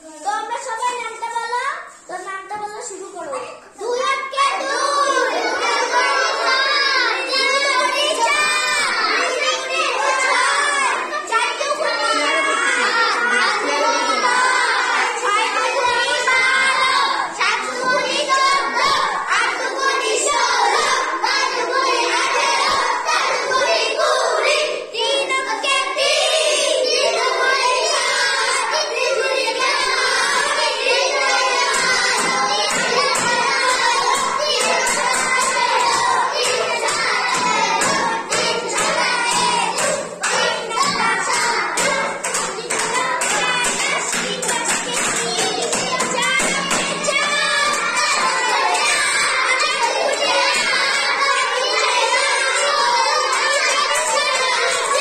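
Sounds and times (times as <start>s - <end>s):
children singing together: 3.5s - 55.0s.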